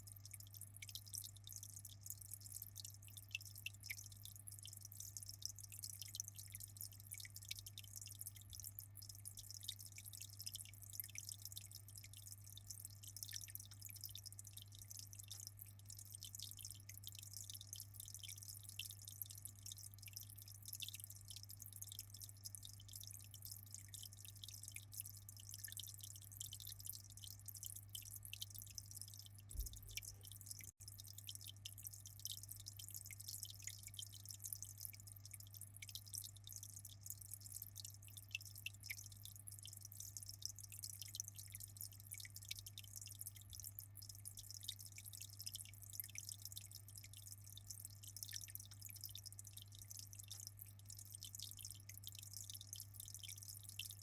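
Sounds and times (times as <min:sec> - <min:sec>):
aquarium water trickling and dripping: 0:00.0 - 0:54.0.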